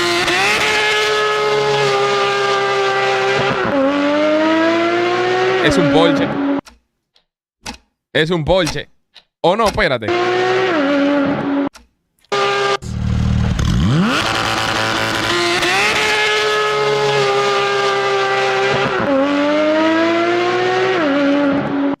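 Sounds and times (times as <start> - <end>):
sports car engine revving: 0.0 - 6.6, 10.1 - 11.7, 12.3 - 22.0.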